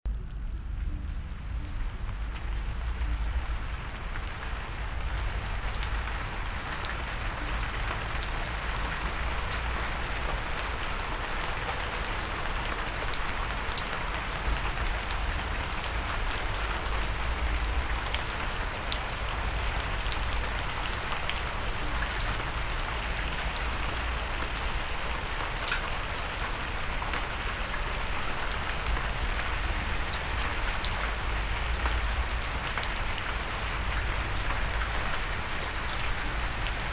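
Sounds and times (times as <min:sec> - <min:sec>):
raindrops ticking: 0:00.1 - 0:36.9.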